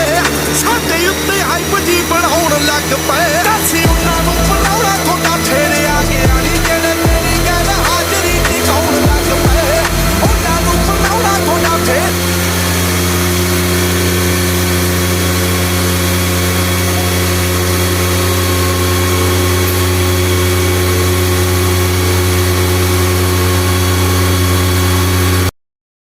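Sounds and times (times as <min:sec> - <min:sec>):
motorcycle engine running: 0:00.0 - 0:25.5.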